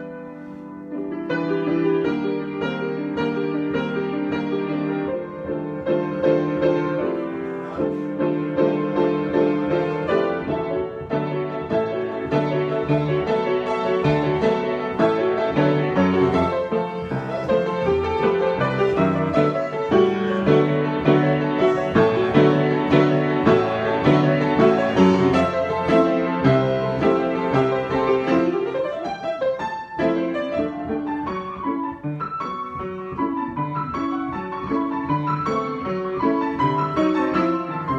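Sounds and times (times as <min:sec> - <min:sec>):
solo piano improvisation: 0:00.0 - 0:37.9.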